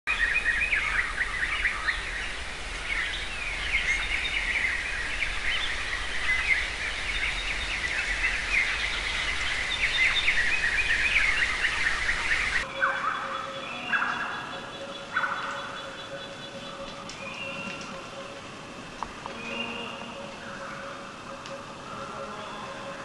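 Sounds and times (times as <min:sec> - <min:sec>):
small birds chirping and trilling: 0:00.1 - 0:23.0.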